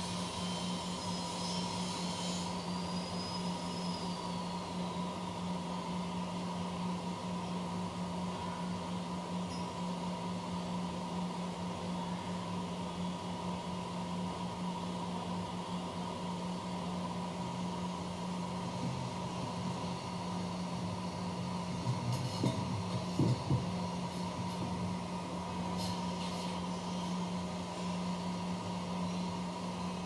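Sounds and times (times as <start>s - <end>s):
faint high whine: 0.0s - 30.0s.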